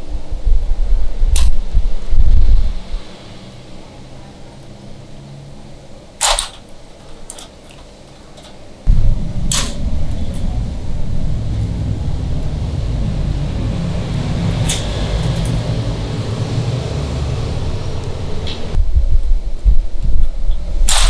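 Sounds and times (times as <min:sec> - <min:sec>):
steady low rumble: 0:00.0 - 0:06.0, 0:08.8 - 0:21.0.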